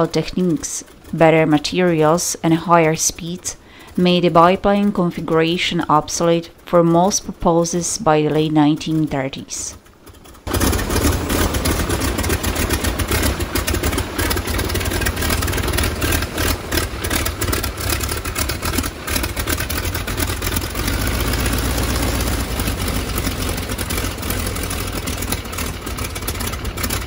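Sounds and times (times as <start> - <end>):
radial engine idling: 0.0 - 27.0.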